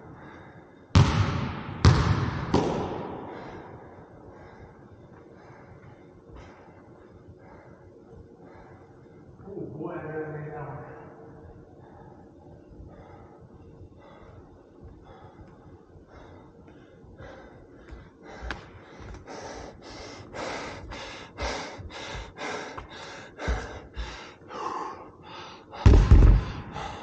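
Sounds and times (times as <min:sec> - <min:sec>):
man panting heavily: 0:00.0 - 0:00.9, 0:02.9 - 0:09.4, 0:11.4 - 0:27.0.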